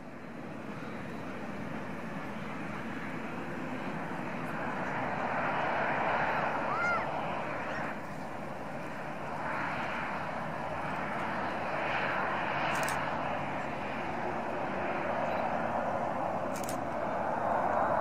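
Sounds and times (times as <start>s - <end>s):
jet engines running at low thrust: 0.0s - 18.0s.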